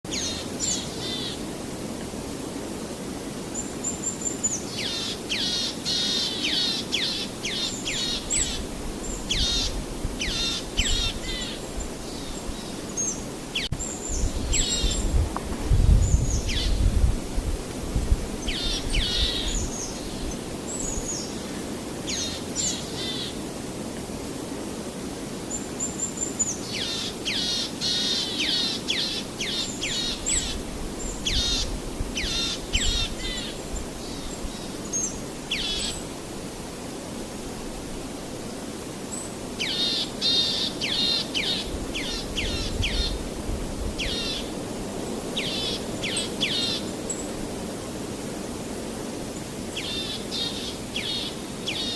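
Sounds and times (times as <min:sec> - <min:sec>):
steady low background noise: 0:00.1 - 0:51.9.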